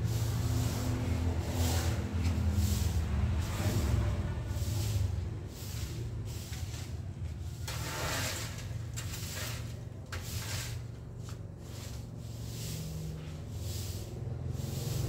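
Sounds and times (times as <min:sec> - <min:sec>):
broom swishing on tiles: 0:00.0 - 0:15.0.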